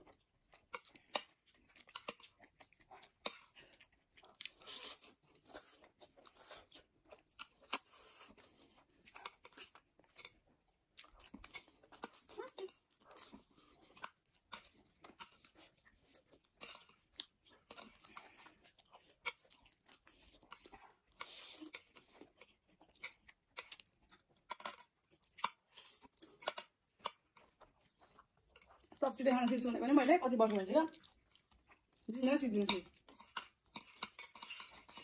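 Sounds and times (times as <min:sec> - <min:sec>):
chewing: 0:00.0 - 0:35.0.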